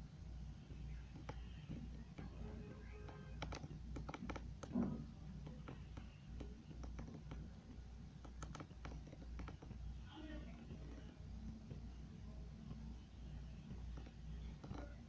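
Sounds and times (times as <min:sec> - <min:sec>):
light clicks and taps: 0:00.6 - 0:15.0.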